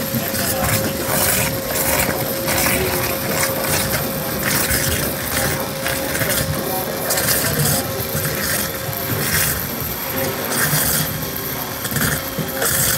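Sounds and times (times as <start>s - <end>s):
waterjet rushing hiss: 0.0s - 12.9s.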